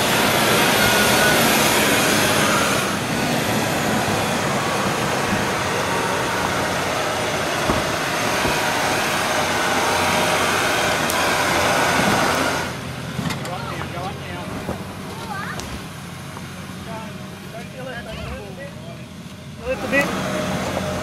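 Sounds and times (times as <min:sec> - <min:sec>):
engine running under load: 0:00.0 - 0:21.0.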